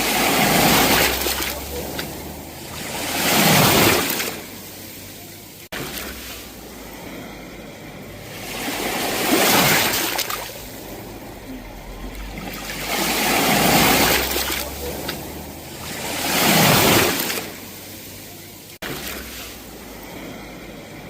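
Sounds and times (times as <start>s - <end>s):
sea waves breaking on shore: 0.0s - 21.0s.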